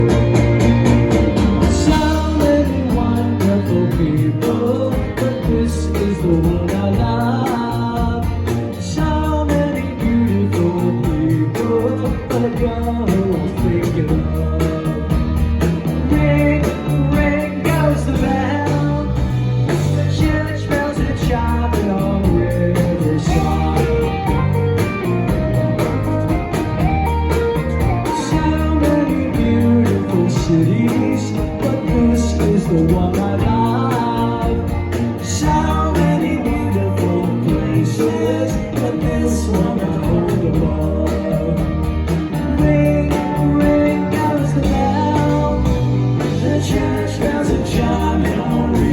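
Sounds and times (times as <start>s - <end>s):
rock band playing: 0.0s - 48.9s
person singing: 1.5s - 26.3s, 27.6s - 48.9s.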